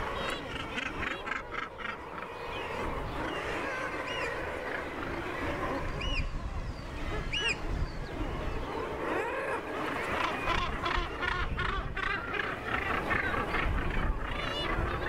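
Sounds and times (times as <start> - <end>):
seabird colony calls: 0.0 - 15.0.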